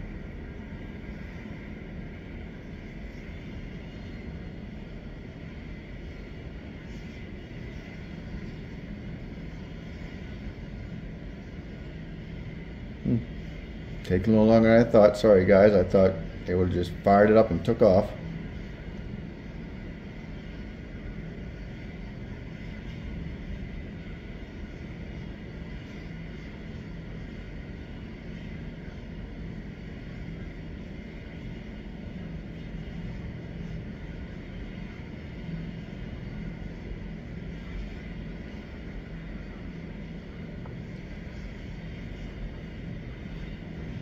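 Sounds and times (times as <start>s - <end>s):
helicopter turbine engine idling: 0.0s - 44.0s.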